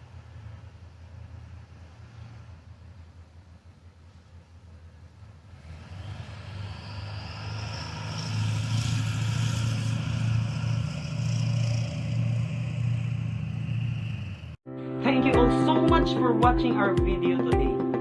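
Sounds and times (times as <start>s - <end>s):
locomotive engine drone: 0.0s - 14.6s
rail and wheel noise: 0.0s - 14.6s.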